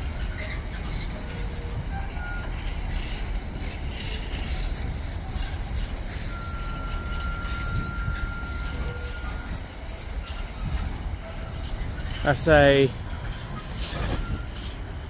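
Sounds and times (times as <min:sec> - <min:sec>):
freight train wagons rumbling: 0:00.0 - 0:15.0
wheels clicking: 0:00.0 - 0:15.0
high metallic squeal: 0:00.2 - 0:15.0.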